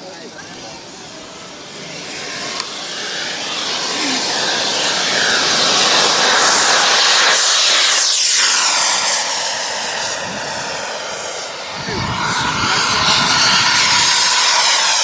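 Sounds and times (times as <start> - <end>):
model jet engine hissing: 0.0 - 15.0.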